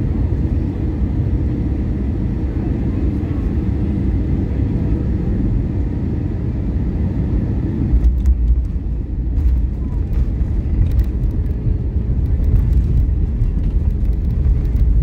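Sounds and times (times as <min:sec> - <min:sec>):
airplane cabin engine rumble: 0:00.0 - 0:15.0
deeper rumble: 0:00.0 - 0:15.0.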